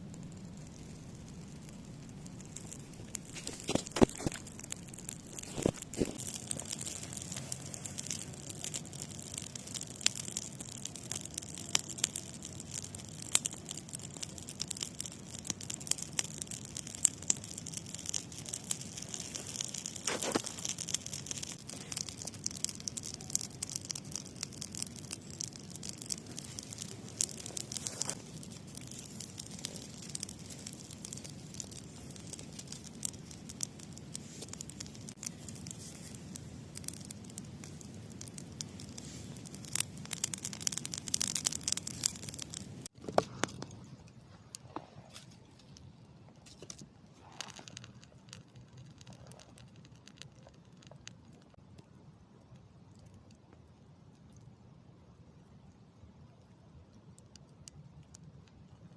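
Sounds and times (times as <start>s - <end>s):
campfire crackling: 0.0s - 53.5s, 55.6s - 58.9s.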